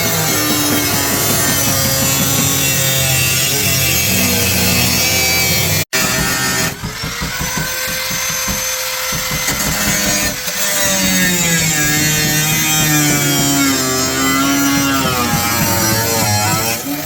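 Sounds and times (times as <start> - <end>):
power tool whining: 0.0 - 17.0.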